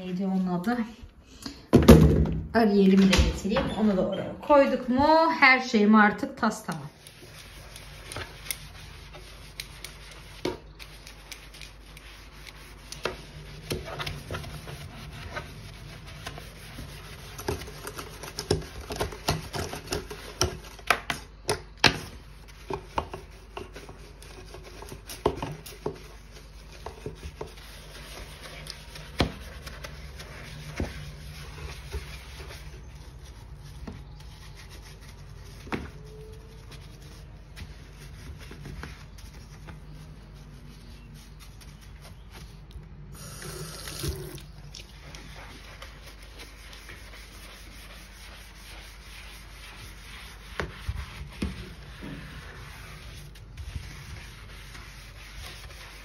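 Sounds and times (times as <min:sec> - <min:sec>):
sponge scrubbing a sink: 0:03.4 - 0:56.0.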